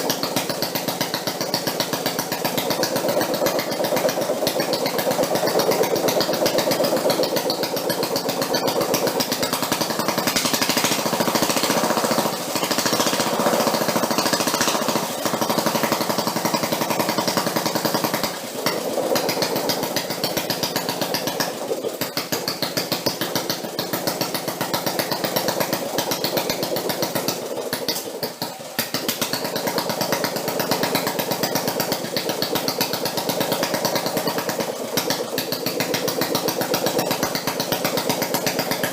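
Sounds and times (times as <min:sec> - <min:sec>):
air compressor engine running: 0:00.0 - 0:38.9.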